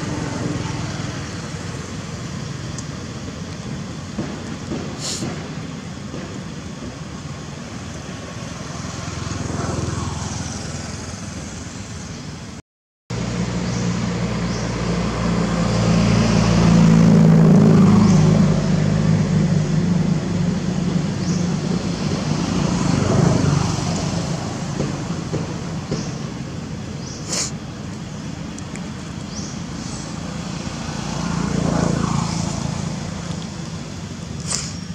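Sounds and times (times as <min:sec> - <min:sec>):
rough outdoor background noise: 0:00.0 - 0:34.9
vehicle engine humming: 0:00.0 - 0:34.9.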